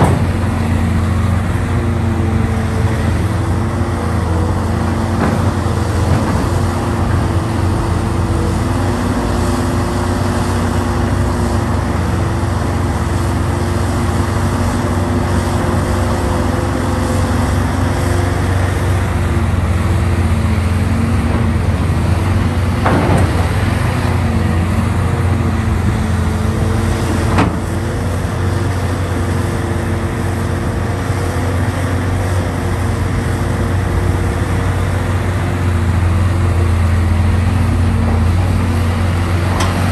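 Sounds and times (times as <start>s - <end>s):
excavator engine droning: 0.0s - 39.9s.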